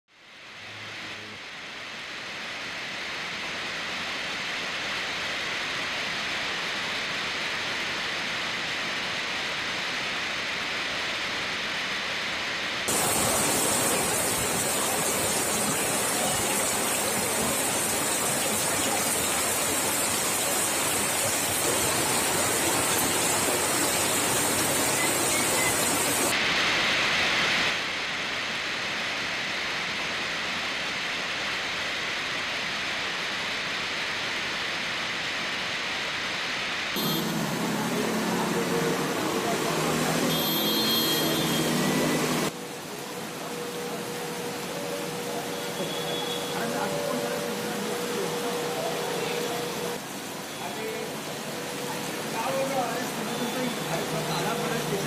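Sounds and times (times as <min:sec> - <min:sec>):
loud hissy water rush: 0:00.4 - 0:55.0
water rushing over spillway: 0:01.8 - 0:28.4, 0:37.0 - 0:55.0.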